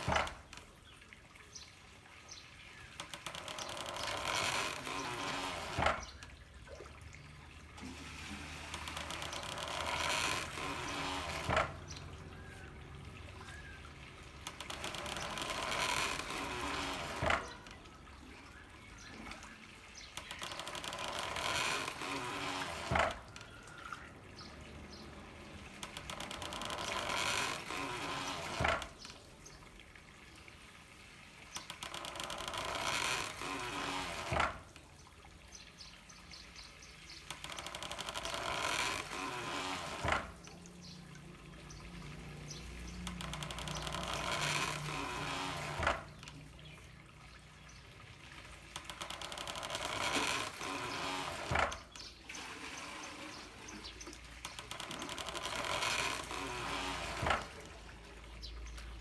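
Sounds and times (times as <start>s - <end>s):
water running from a pipe: 0.0s - 59.0s.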